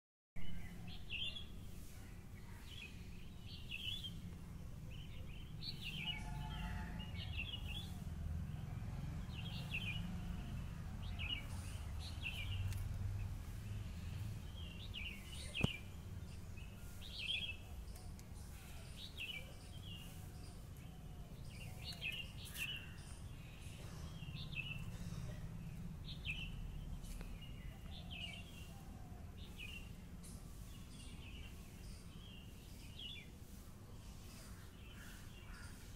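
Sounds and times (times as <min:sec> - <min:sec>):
small birds chirping: 0:00.4 - 0:35.9.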